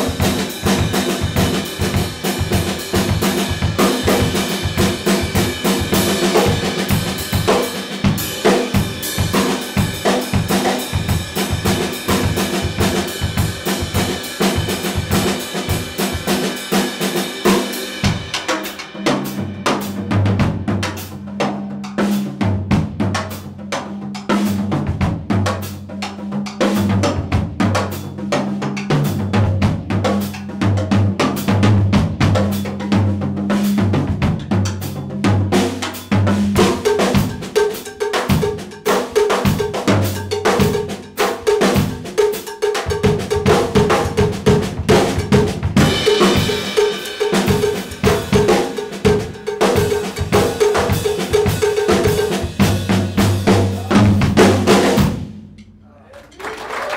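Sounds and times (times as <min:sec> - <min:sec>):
drum kit groove: 0:00.0 - 0:56.6.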